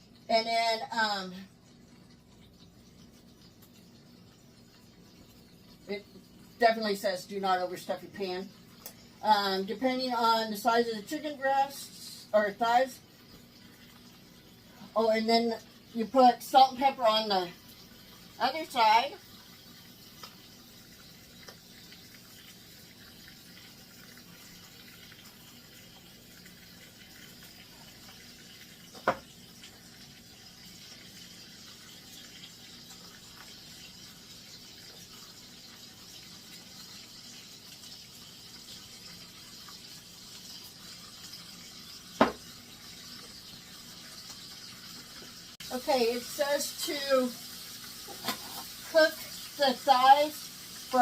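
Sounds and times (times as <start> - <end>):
chicken sizzling in oil: 0.0 - 51.0.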